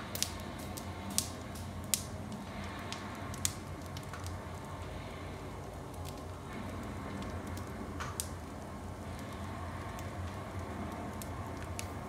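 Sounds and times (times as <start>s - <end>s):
firewood crackling in stove: 0.0s - 12.0s.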